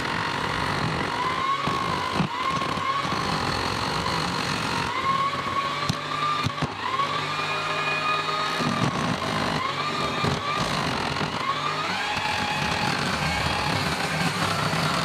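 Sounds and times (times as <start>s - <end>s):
chisel cutting wood: 0.0s - 15.0s
lathe motor whine: 0.0s - 15.0s.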